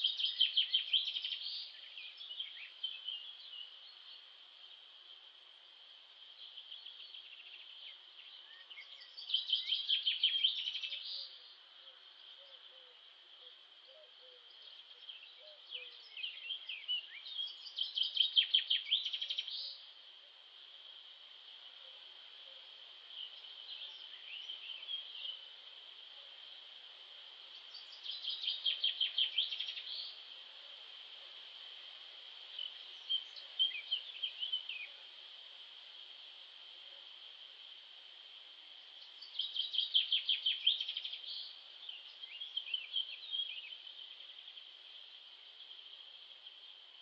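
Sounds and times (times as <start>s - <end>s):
songbird rapid trill: 0.0s - 4.9s, 6.3s - 47.0s.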